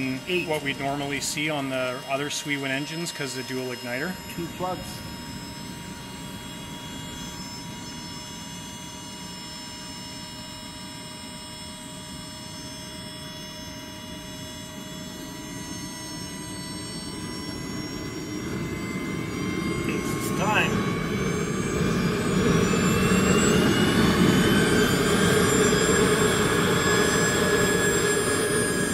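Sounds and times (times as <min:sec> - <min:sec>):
micro turbine engine whining: 0:00.0 - 0:28.9.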